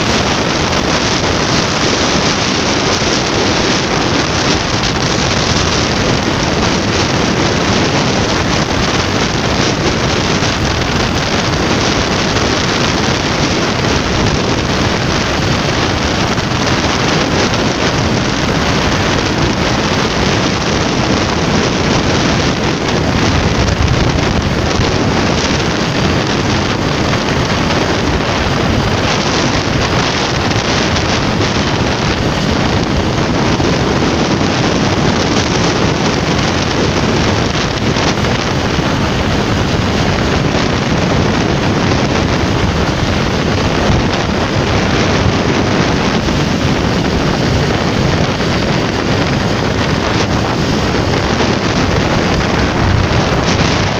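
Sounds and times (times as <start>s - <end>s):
motorcycle engine running: 0.0s - 53.9s
wind rushing over microphone: 0.0s - 53.9s.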